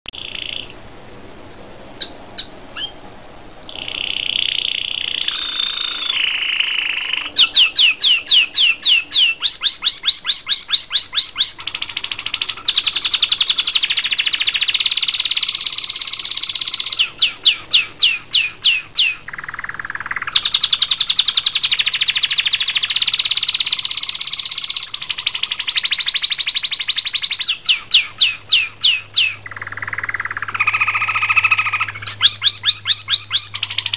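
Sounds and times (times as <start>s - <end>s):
canary chirps: 0.1s - 0.8s, 1.9s - 3.0s, 3.6s - 33.9s
canary singing trills: 0.1s - 0.8s, 1.9s - 3.0s, 3.6s - 33.9s.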